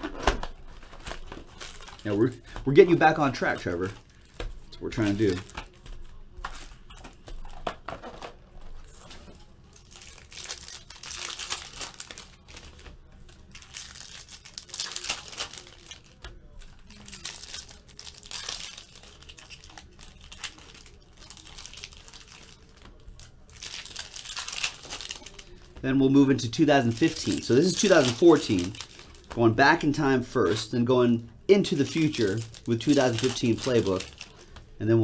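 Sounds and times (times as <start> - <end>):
foil wrappers crinkling and tearing: 0.0 - 30.7, 31.5 - 34.8.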